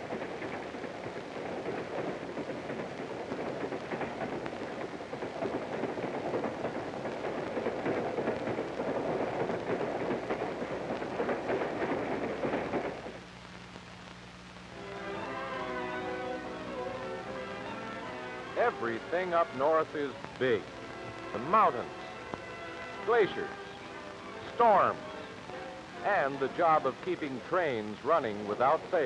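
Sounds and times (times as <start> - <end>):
freight train wheels clattering: 0.0 - 13.3, 14.8 - 29.0.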